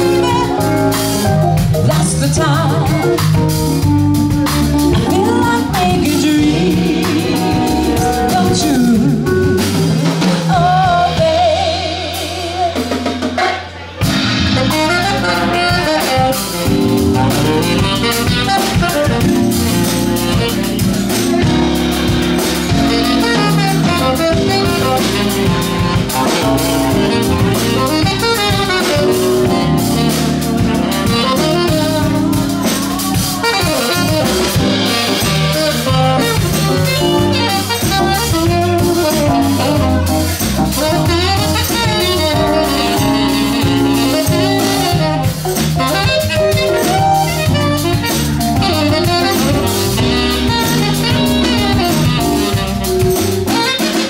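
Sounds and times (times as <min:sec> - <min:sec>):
live jazz band playing: 0:00.0 - 0:54.0.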